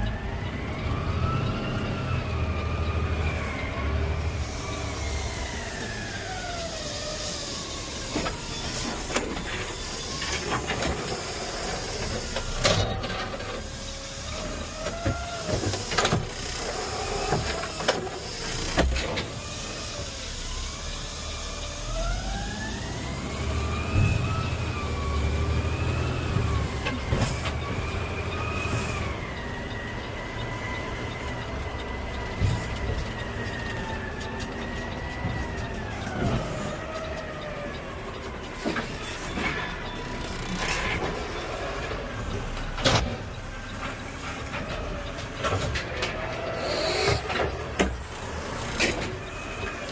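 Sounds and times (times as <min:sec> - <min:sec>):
garbage truck whine: 0:00.0 - 0:49.9.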